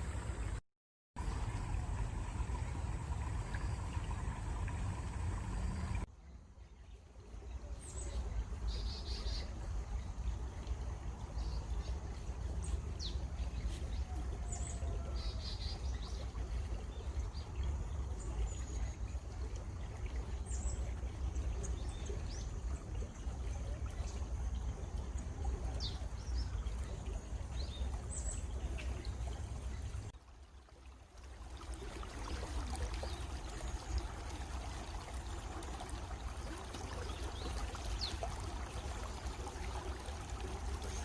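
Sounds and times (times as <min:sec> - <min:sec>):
stream water running: 0:00.0 - 0:00.6, 0:01.2 - 0:41.0.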